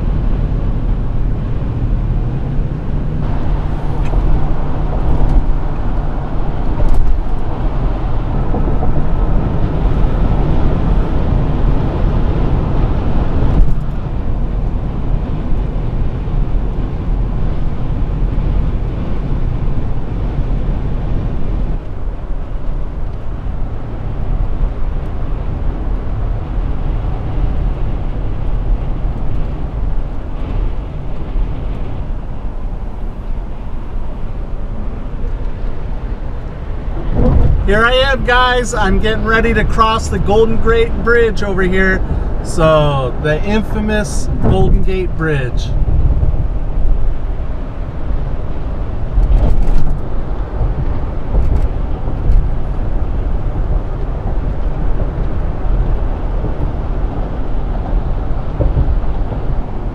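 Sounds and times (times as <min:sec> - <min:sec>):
van road noise: 0:00.0 - 0:59.9.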